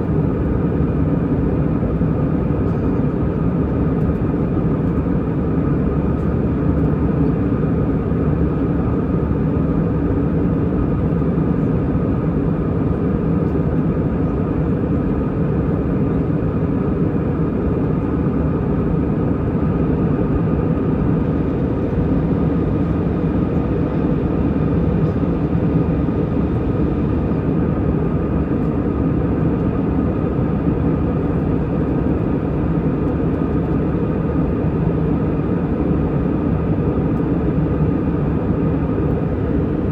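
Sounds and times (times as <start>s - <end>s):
aircraft cabin engine drone: 0.0s - 39.9s
constant whine: 0.0s - 39.9s.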